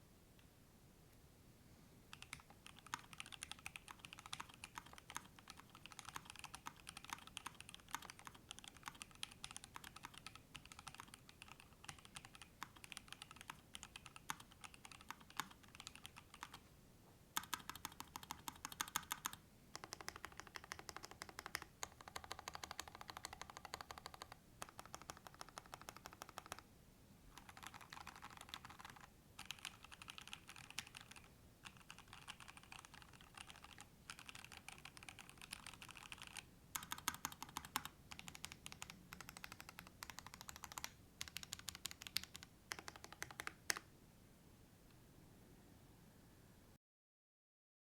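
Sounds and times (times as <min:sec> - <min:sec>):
typing on mechanical keyboard: 0:02.1 - 0:16.6, 0:17.4 - 0:26.6, 0:27.4 - 0:43.8.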